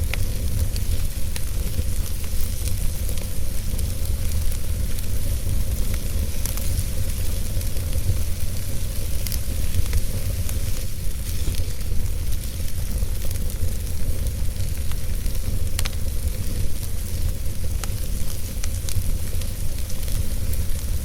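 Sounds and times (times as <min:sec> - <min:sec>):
wood fire burning: 0:00.0 - 0:21.0.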